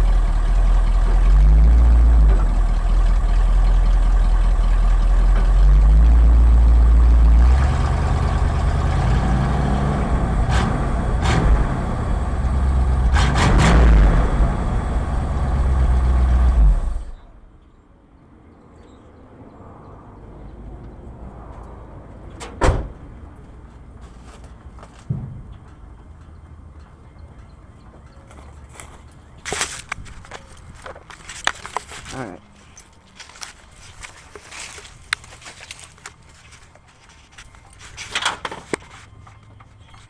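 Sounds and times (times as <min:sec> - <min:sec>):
engine running: 0:00.0 - 0:17.6, 0:20.4 - 0:40.0.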